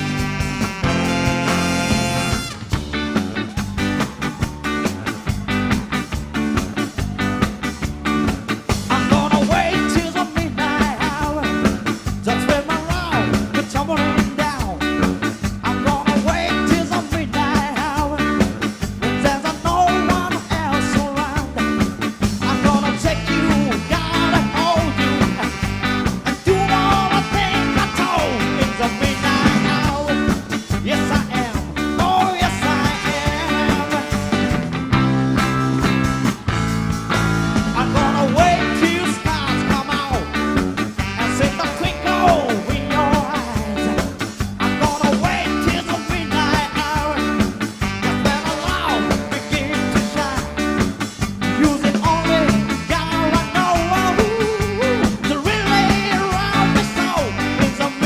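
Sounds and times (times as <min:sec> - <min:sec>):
bass and drum groove: 0:00.0 - 0:58.0
live band playing soul-rock: 0:00.0 - 0:58.0.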